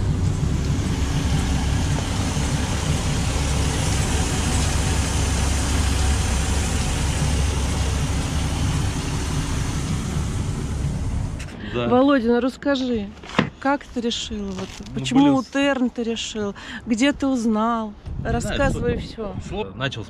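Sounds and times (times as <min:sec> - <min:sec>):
boat engine rumbling: 0:00.0 - 0:19.4.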